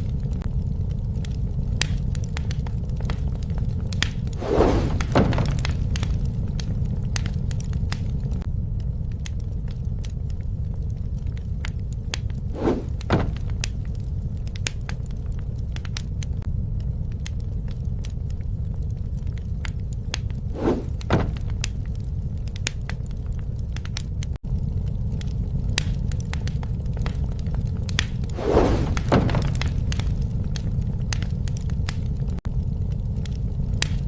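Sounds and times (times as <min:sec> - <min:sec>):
low roar of flames: 0:00.0 - 0:34.0
rush of flames: 0:00.0 - 0:34.0
wood fire crackling and popping: 0:00.0 - 0:34.0.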